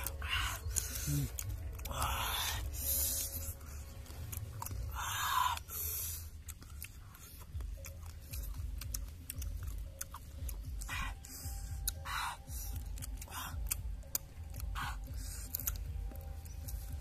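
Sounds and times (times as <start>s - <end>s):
chewing and crunching: 0.0s - 17.0s.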